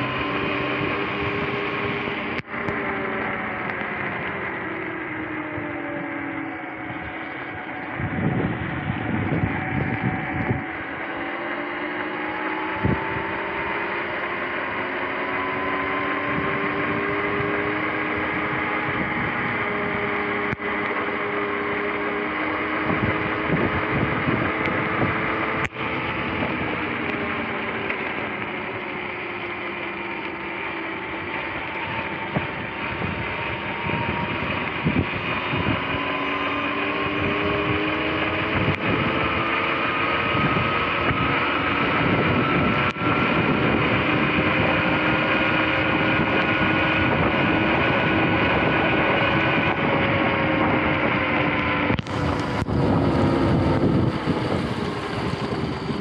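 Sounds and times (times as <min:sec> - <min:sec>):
wind on microphone: 0:00.0 - 0:28.8, 0:31.1 - 0:56.0
electric motor whine: 0:00.0 - 0:56.0.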